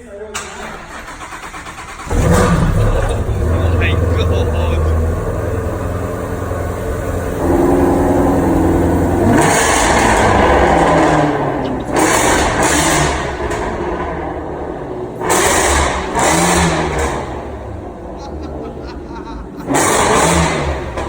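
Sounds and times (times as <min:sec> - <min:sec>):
car engine idling and revving: 0:00.4 - 0:21.0.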